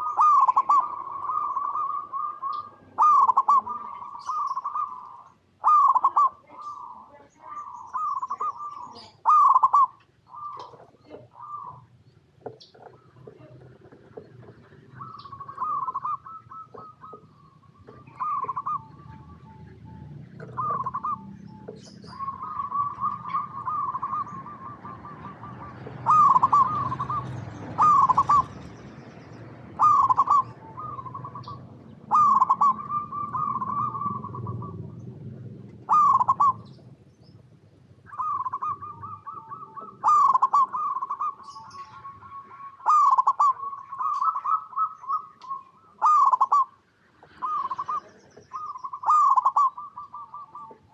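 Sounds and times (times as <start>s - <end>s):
small bird high chirps: 0.0s - 10.8s, 14.9s - 34.9s, 38.0s - 50.9s
dove cooing: 0.0s - 50.9s.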